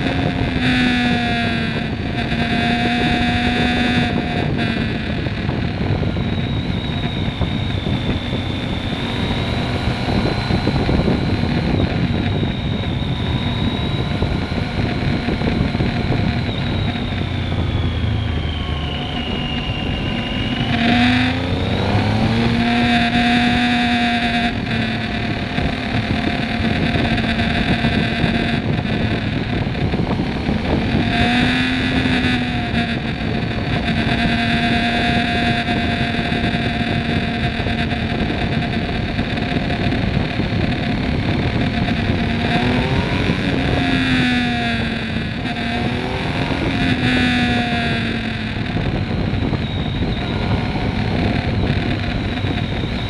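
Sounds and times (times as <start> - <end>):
motorcycle engine running: 0.0 - 53.0
wind rush on microphone: 0.0 - 53.0.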